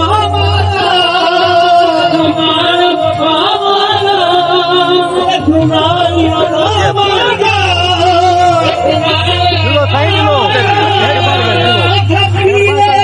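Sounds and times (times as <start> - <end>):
instrumental accompaniment: 0.0 - 13.0
man singing: 0.0 - 13.0.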